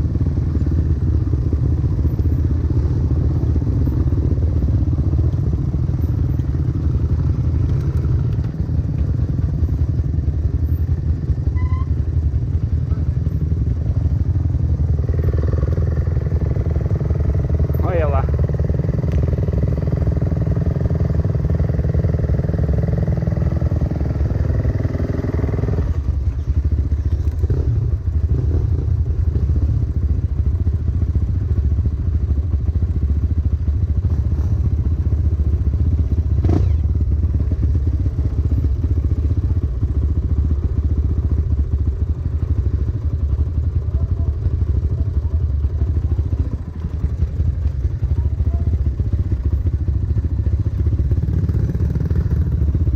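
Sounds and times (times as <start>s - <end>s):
dirt bike engine running: 0.0s - 52.9s.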